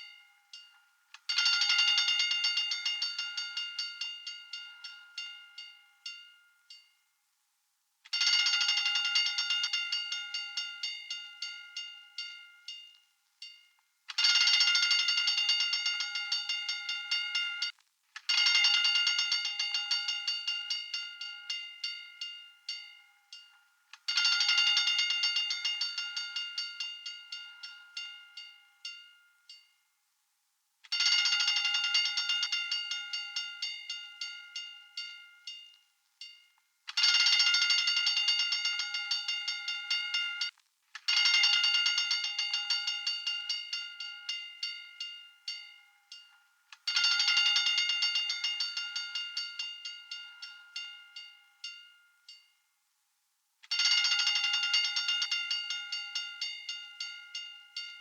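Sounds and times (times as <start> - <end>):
hand-cranked fire alarm bell ringing: 0.0 - 6.9, 8.1 - 29.7, 30.9 - 40.5, 41.1 - 52.5, 53.7 - 58.0.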